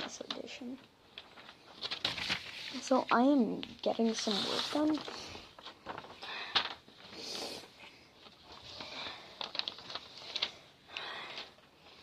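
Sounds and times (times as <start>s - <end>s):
soft rustles: 0.0s - 12.0s.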